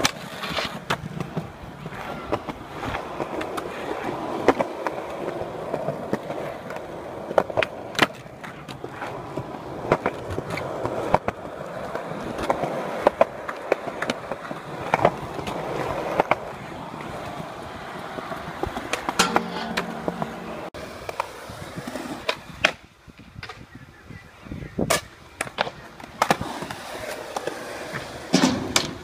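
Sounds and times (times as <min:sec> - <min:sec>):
skateboard clacks: 0:00.0 - 0:23.7, 0:24.8 - 0:29.0
skateboard wheels on concrete: 0:00.0 - 0:29.0.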